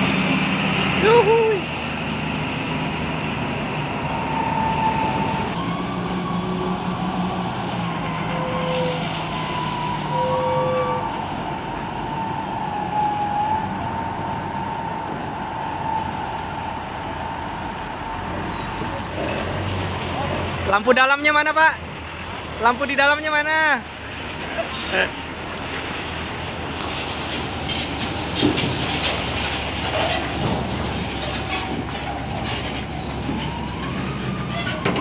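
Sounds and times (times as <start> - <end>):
truck engines humming: 0.0 - 35.0.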